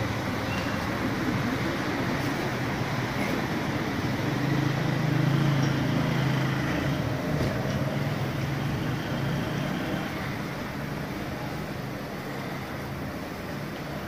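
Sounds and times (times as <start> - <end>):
general traffic noise: 0.0 - 14.0
passing motor vehicle hum: 0.0 - 14.0.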